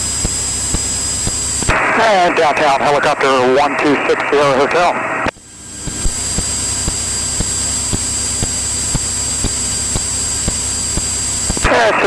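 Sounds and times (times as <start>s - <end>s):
plane engine with high whine: 0.0s - 12.0s.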